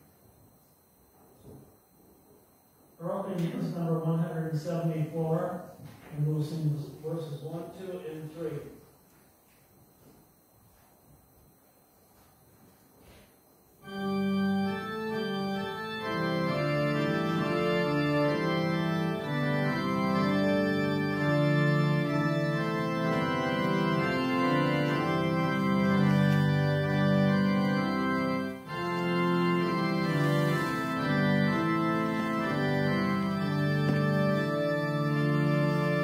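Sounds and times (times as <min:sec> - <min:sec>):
organ playing hymn chords: 0:03.0 - 0:09.0, 0:13.1 - 0:36.0.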